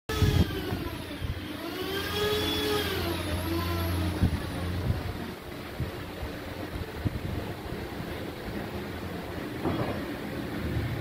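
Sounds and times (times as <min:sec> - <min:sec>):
motor humming and whining: 0:00.1 - 0:11.0.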